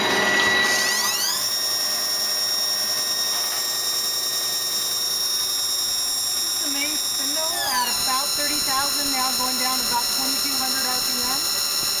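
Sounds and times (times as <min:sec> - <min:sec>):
lathe spindle whine: 0:00.0 - 0:12.0.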